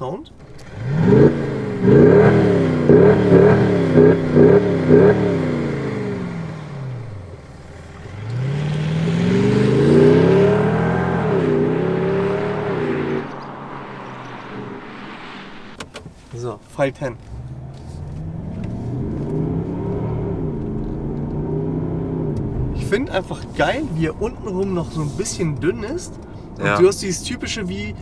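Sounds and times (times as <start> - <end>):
car engine throttle blips: 0.0 - 28.0
car accelerating: 0.4 - 15.9, 16.8 - 28.0.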